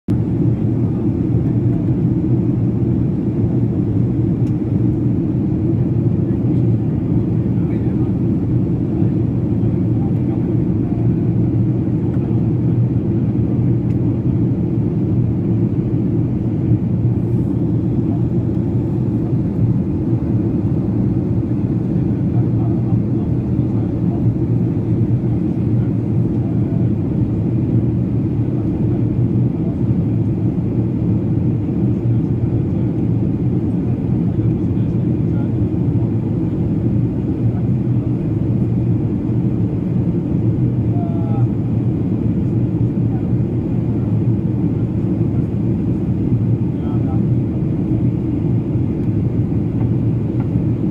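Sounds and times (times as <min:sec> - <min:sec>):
airplane engine rumble in cabin: 0:00.1 - 0:50.9.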